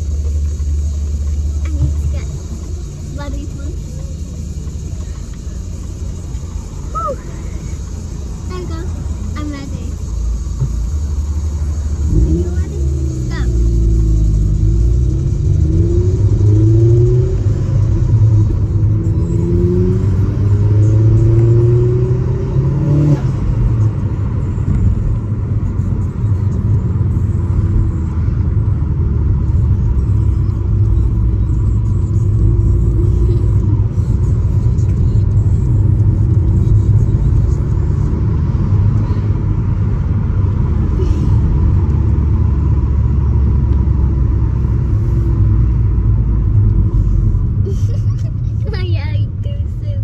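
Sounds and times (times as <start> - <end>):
car engine pulling hard: 0.0 - 50.0
engine and road noise drone: 0.0 - 50.0.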